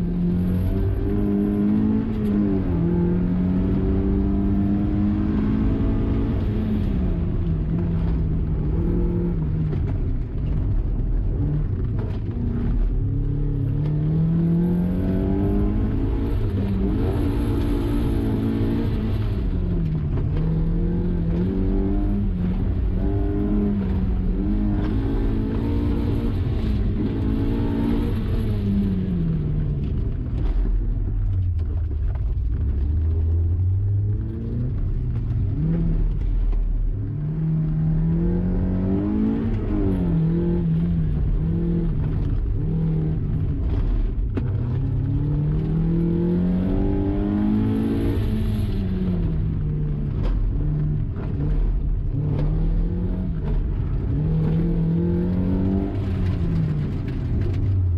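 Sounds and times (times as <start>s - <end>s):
car engine revving: 0.0s - 57.9s
road and tyre rumble: 0.0s - 57.9s.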